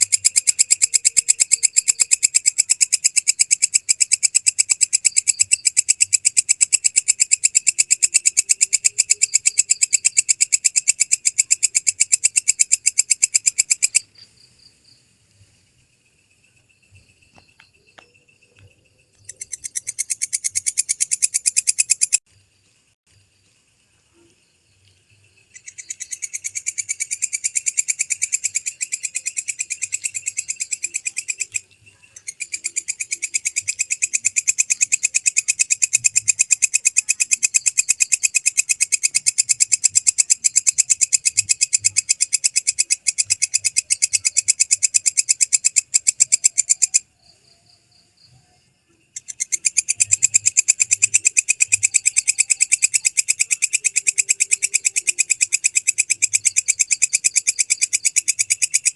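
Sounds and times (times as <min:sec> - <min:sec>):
katydid clicking song: 0:00.0 - 0:14.3, 0:16.4 - 0:22.3, 0:24.8 - 0:47.5, 0:49.1 - 0:58.9.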